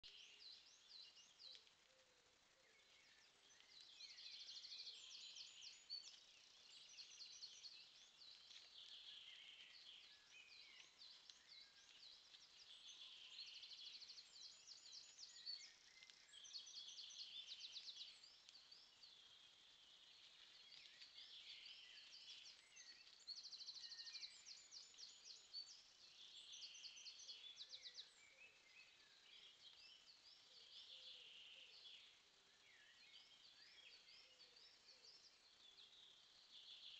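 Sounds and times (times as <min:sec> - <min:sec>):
songbirds singing: 0:00.0 - 0:36.9.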